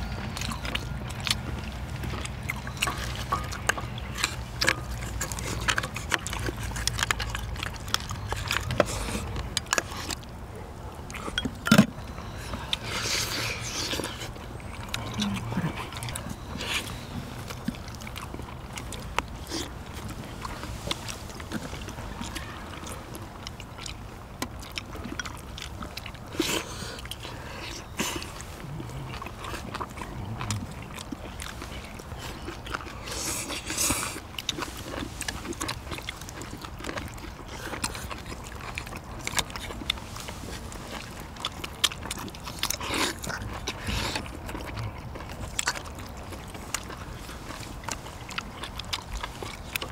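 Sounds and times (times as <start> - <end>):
people chewing and slurping: 0.0 - 49.9.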